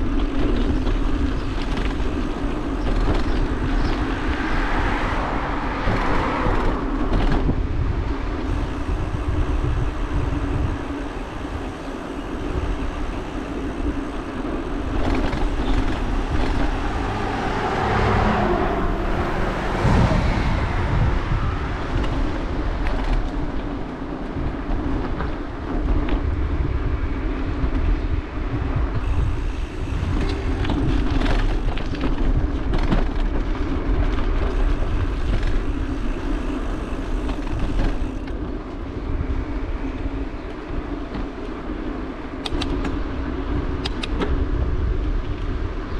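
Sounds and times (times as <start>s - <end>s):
bicycle rattling: 0.0s - 45.9s
passing traffic: 0.0s - 45.9s
wind on microphone: 0.0s - 45.9s.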